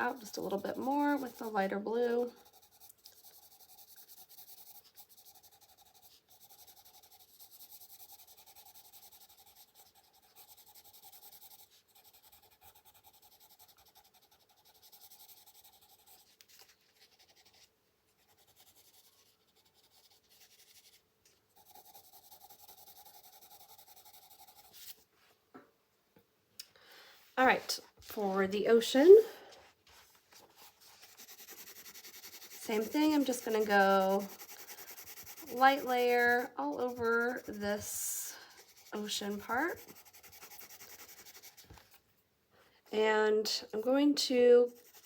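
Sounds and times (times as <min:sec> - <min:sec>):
coloured pencil scratching on paper: 0:00.0 - 0:21.0, 0:21.6 - 0:25.0, 0:30.4 - 0:42.0, 0:44.6 - 0:45.0.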